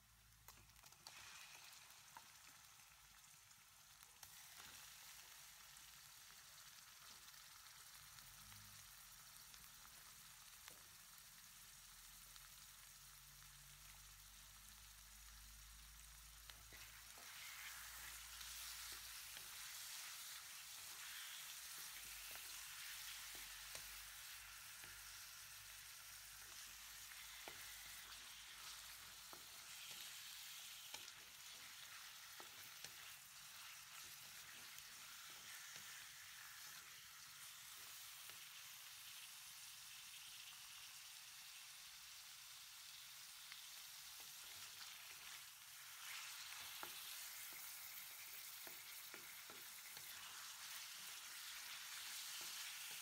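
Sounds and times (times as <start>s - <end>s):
meat sizzling in oil: 0.0s - 53.0s.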